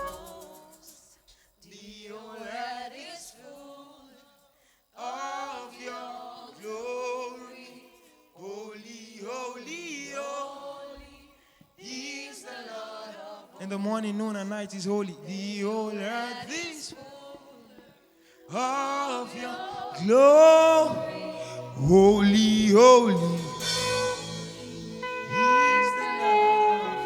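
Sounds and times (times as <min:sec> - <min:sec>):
unaccompanied voices singing: 0:00.0 - 0:04.4, 0:05.0 - 0:27.0.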